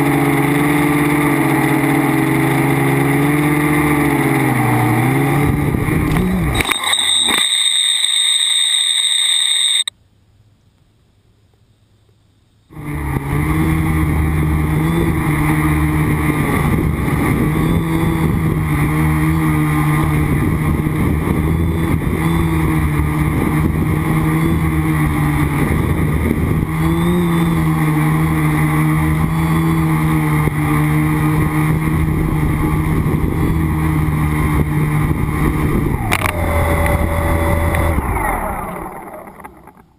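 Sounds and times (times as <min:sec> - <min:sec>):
drone propellers humming: 0:00.0 - 0:09.9, 0:12.7 - 0:39.9.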